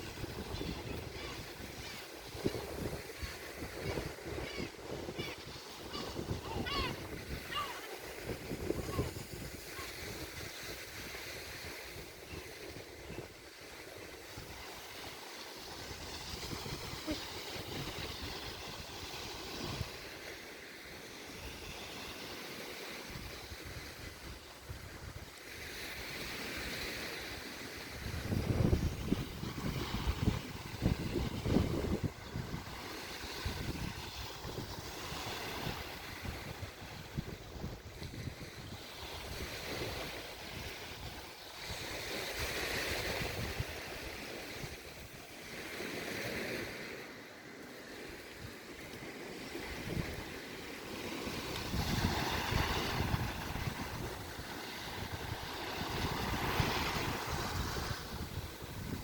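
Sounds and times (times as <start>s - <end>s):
wind rumbling on microphone: 0.0s - 20.2s, 23.0s - 47.2s, 48.0s - 59.0s
surf washing onto beach: 0.0s - 59.0s.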